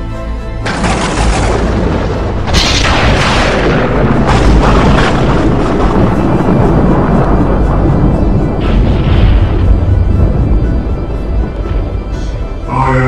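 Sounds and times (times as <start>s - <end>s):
booming explosions: 0.6s - 12.2s.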